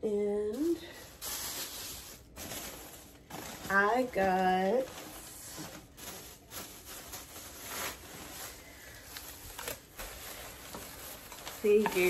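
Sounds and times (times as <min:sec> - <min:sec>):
rustling and handling items: 0:00.2 - 0:12.0.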